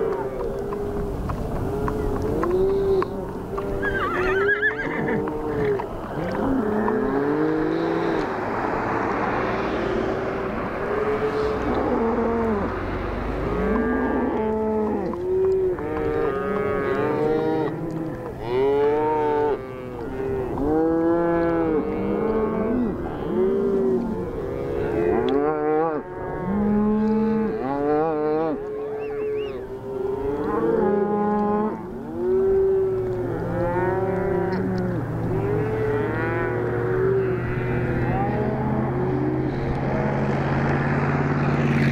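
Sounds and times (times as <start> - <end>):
cattle mooing: 0.0 - 41.9.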